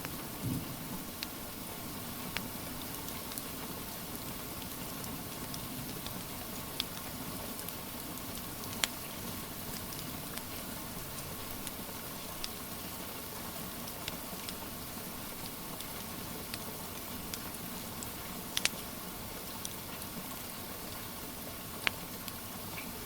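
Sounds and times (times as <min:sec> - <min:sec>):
steady rain hiss: 0:00.0 - 0:23.0
wood fire crackling and popping: 0:00.0 - 0:23.0.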